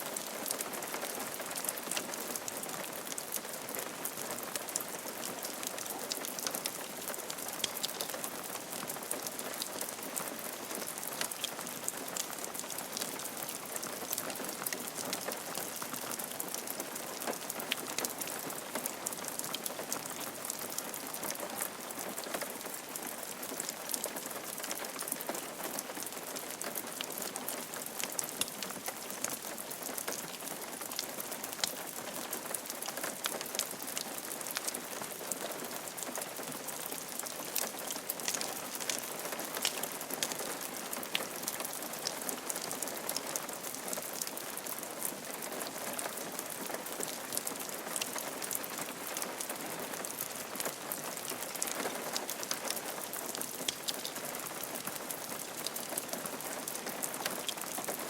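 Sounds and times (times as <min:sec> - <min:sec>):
rain falling on roof: 0:00.0 - 0:58.0.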